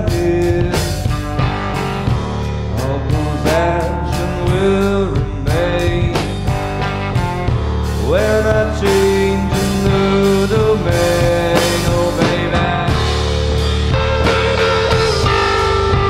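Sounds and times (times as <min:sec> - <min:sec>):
blues-rock band instrumental: 0:00.0 - 0:16.0
lead line with bending notes: 0:00.0 - 0:16.0.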